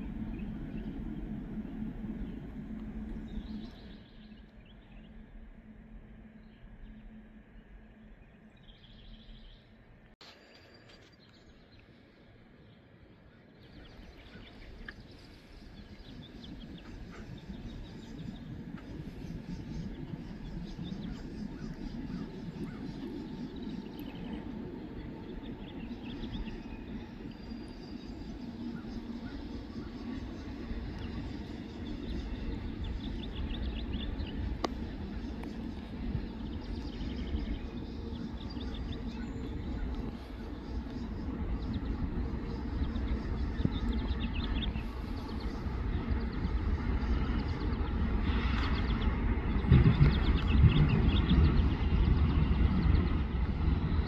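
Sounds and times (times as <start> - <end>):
birds chirping: 0.0 - 5.4, 6.2 - 54.0
freight train rumbling on rails: 0.0 - 10.1, 13.6 - 54.0.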